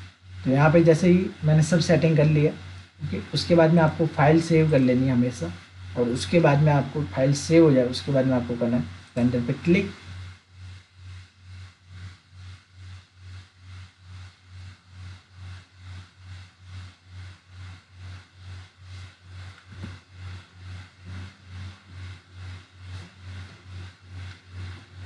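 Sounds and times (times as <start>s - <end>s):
machine humming in pulses: 0.0s - 25.0s.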